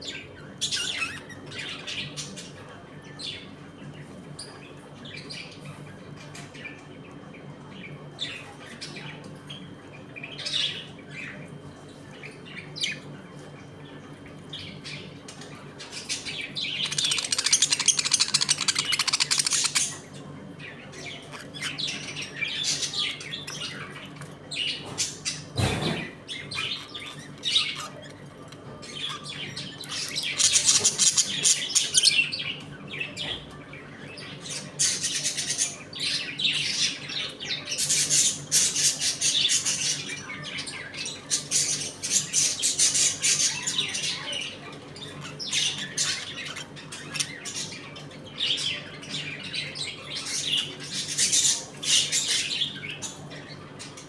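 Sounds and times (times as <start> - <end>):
budgerigars chirping and chattering: 0.0 - 13.2, 14.0 - 54.0.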